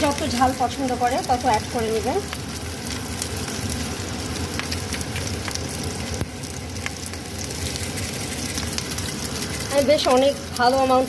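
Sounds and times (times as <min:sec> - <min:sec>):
food sizzling in hot oil: 0:00.0 - 0:11.0
oil popping: 0:00.0 - 0:11.0.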